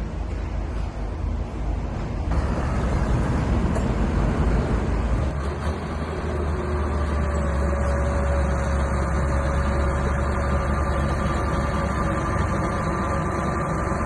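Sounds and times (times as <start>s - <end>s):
bulldozer engine rumbling: 0.0s - 14.0s.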